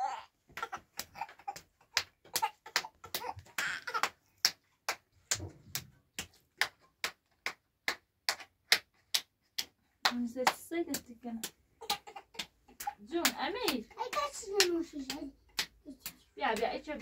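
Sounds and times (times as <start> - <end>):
child clapping hands: 0.5 - 17.0.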